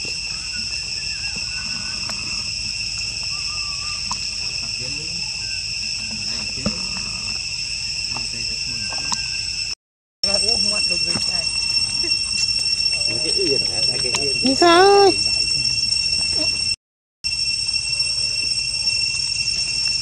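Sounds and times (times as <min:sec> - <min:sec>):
insects buzzing chorus: 0:00.0 - 0:20.0.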